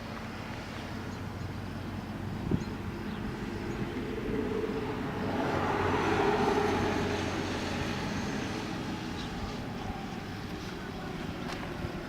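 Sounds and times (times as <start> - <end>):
steady low hum: 0.0 - 12.0
vehicle passing by: 0.2 - 12.0.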